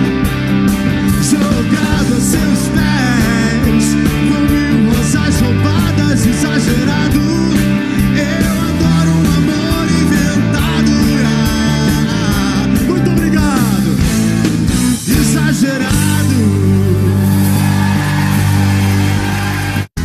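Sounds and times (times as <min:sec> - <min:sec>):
electric guitars: 0:00.0 - 0:19.9
drums: 0:00.0 - 0:20.0
keyboard: 0:00.0 - 0:20.0
person singing: 0:01.0 - 0:14.0, 0:15.0 - 0:18.0.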